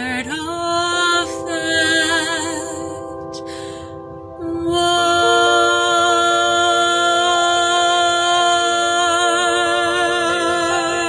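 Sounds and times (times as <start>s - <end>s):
sustained backing music: 0.0s - 11.0s.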